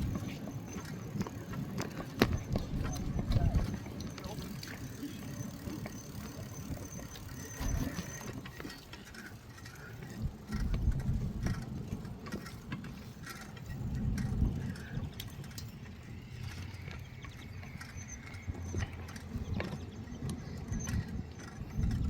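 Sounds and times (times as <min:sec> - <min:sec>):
bicycle clicking and rattling: 0:00.0 - 0:22.0
wind buffeting microphone: 0:00.0 - 0:22.0.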